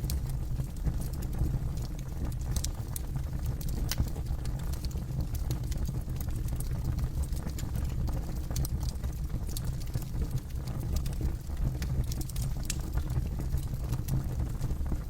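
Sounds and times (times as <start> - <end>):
wood crackling and popping: 0.0 - 15.0.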